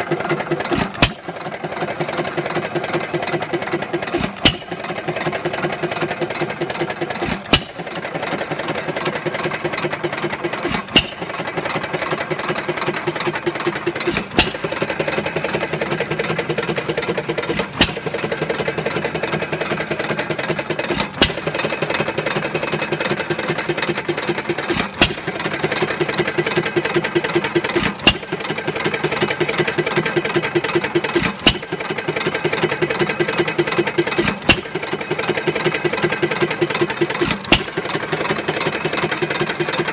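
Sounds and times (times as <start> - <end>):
engine firing with sharp bang: 0.0 - 26.2, 27.4 - 28.6, 31.0 - 32.6, 33.9 - 39.1
steady mechanical clatter: 0.0 - 39.9.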